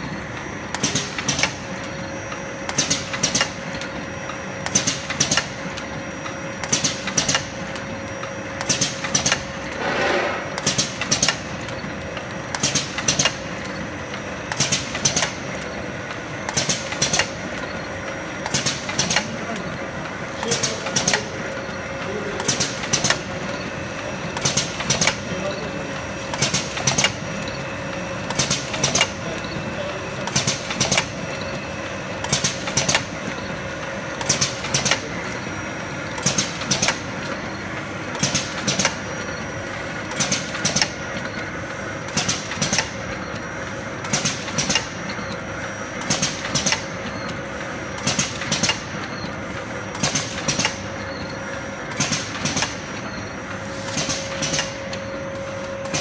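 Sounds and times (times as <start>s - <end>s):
packing machine humming: 0.0s - 56.0s
sharp mechanical clacks: 0.4s - 4.0s, 4.6s - 5.9s, 6.6s - 7.8s, 8.6s - 19.6s, 20.4s - 21.7s, 22.4s - 23.6s, 24.3s - 25.4s, 26.2s - 29.6s, 30.2s - 31.6s, 32.2s - 33.5s, 34.1s - 35.1s, 36.1s - 37.5s, 38.1s - 41.4s, 42.0s - 45.4s, 46.0s - 53.2s, 53.8s - 56.0s.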